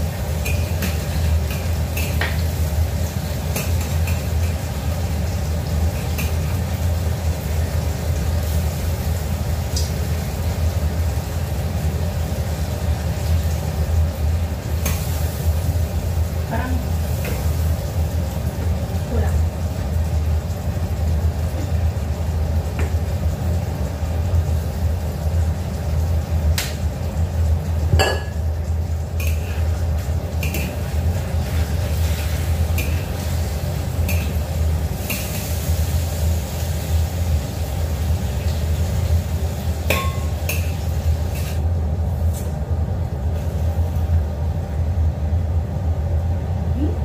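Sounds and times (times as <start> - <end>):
tofu frying in hot oil: 0.0 - 46.7.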